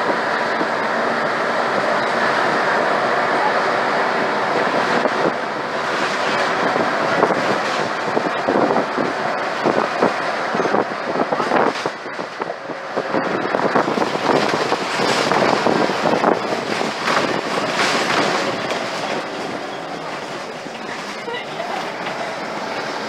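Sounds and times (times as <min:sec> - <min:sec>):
bus body rattling and knocking: 0:00.0 - 0:23.0
road and engine noise: 0:00.0 - 0:23.0.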